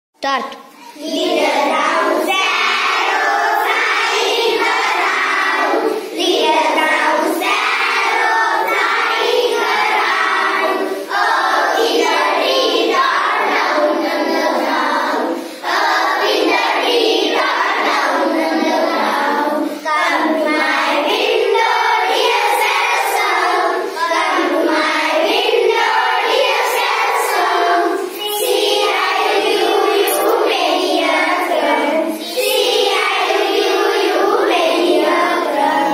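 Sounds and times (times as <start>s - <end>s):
children singing in unison: 0.8s - 35.9s.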